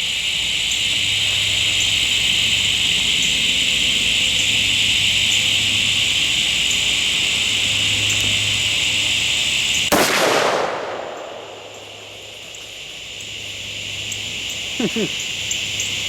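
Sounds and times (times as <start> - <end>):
night insect chorus drone: 0.0 - 16.0.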